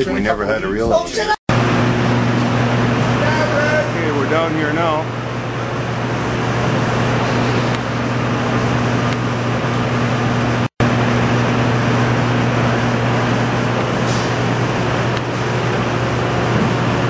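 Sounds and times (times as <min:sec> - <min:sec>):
machinery drone: 0:01.5 - 0:17.0.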